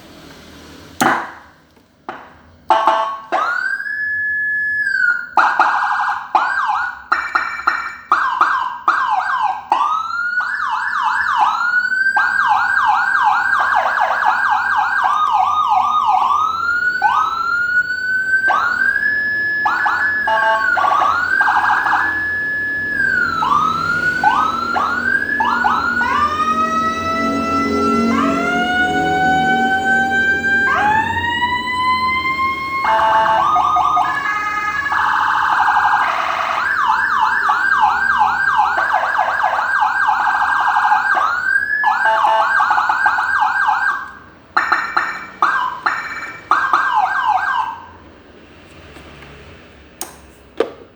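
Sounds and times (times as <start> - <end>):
electronic siren changing tones: 2.7 - 48.0.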